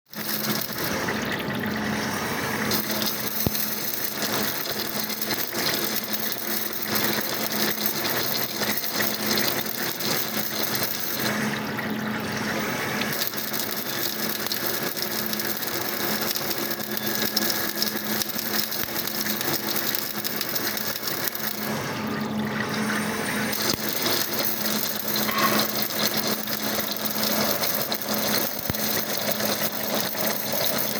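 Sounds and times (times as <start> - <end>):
machine running with hum: 0.1 - 30.9.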